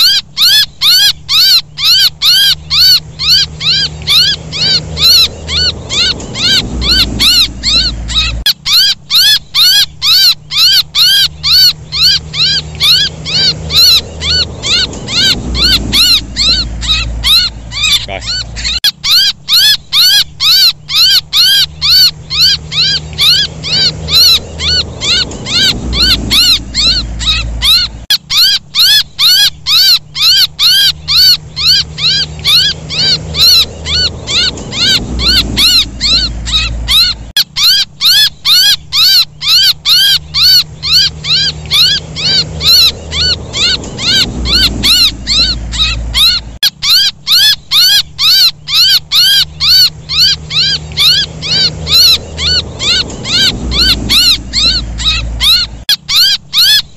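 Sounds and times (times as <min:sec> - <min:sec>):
baby bird distress chirps: 0:00.0 - 0:56.9.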